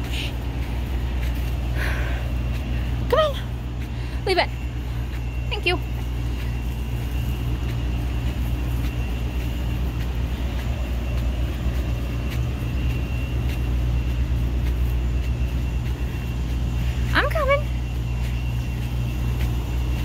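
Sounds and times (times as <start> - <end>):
faint high whine: 0.0 - 20.0
footsteps on dirt path: 0.0 - 20.0
low outdoor rumble: 0.0 - 20.0.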